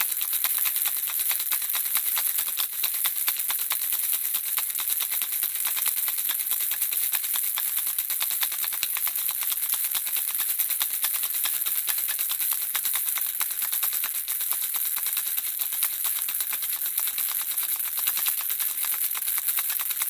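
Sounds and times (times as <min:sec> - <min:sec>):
baby rattle shaken: 0:00.0 - 0:20.0.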